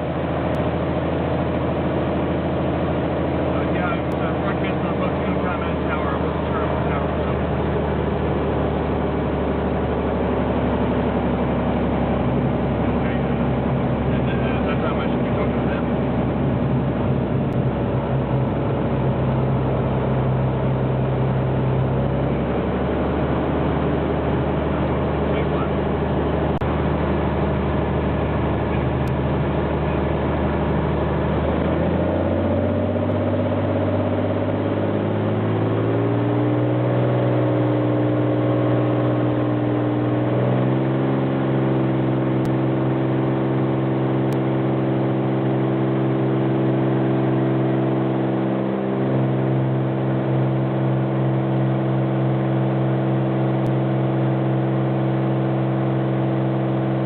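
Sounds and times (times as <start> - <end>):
light airplane engine and propeller: 0.0 - 57.0.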